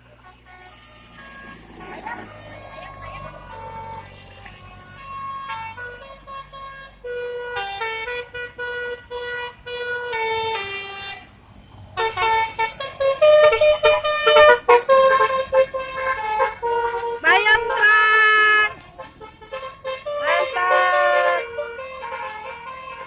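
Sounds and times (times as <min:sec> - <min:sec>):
multi-tone air horn melody: 0:00.0 - 0:11.4, 0:12.0 - 0:23.0.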